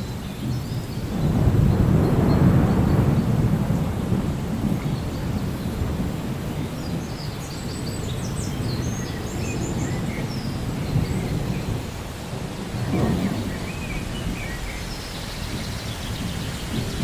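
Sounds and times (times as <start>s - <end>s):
low rumble of thunder: 0.0s - 17.0s
steady rain: 0.0s - 17.0s.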